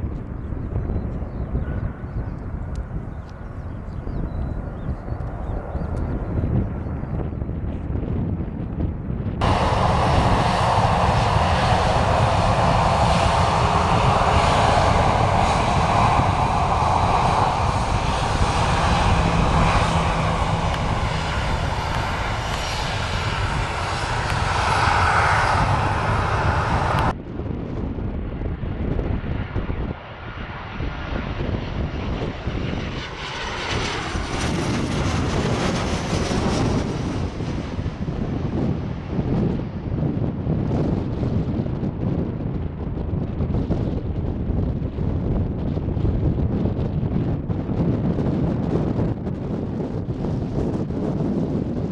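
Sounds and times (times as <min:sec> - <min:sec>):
airplane on approach overhead: 0:00.0 - 0:51.9
jet engines running loud: 0:00.0 - 0:51.9.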